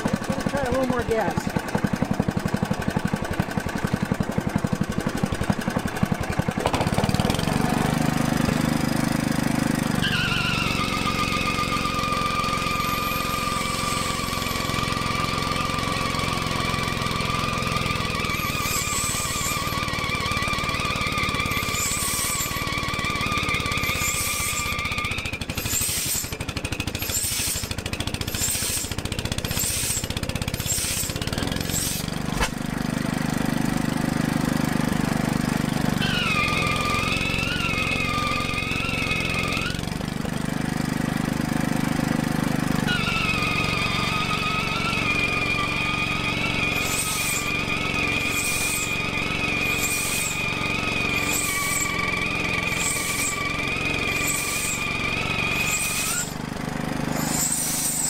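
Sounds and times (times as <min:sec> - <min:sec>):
rubber wheel squealing on flywheel: 0:00.0 - 0:58.0.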